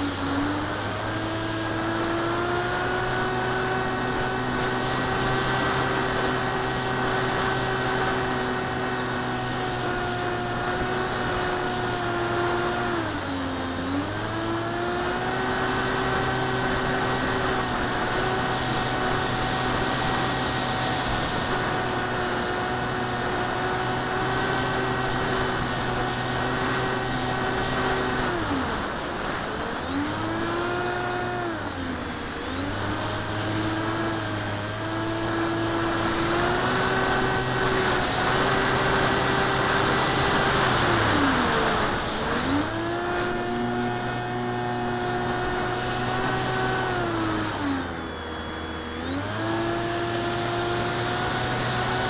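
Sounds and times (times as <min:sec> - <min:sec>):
model plane electric motor whine: 0:00.0 - 0:52.0.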